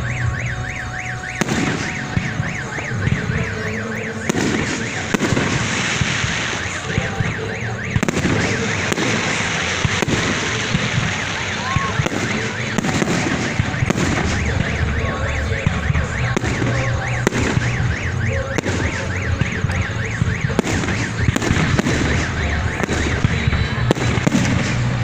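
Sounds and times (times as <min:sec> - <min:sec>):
car alarm warbling: 0:00.0 - 0:24.9
fireworks bangs and crackles: 0:00.0 - 0:25.0.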